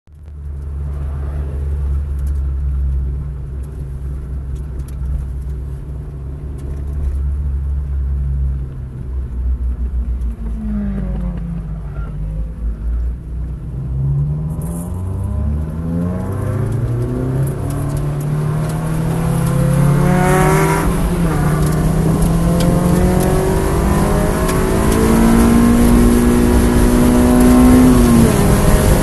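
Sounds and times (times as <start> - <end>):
car engine accelerating: 0.2 - 29.0.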